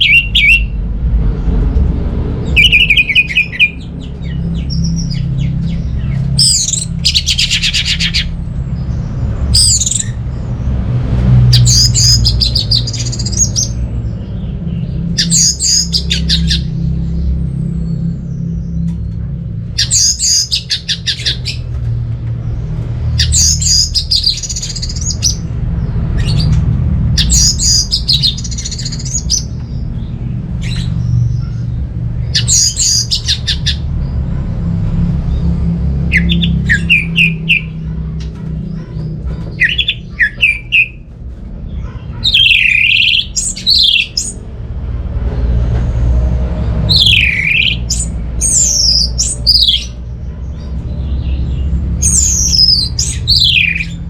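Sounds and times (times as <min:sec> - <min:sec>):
bird singing: 0:00.0 - 0:22.0, 0:22.6 - 0:44.5, 0:46.6 - 0:54.0.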